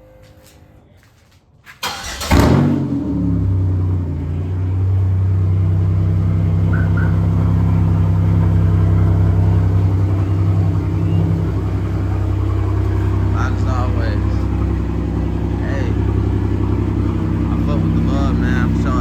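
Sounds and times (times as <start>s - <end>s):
car engine idling: 1.8s - 19.0s.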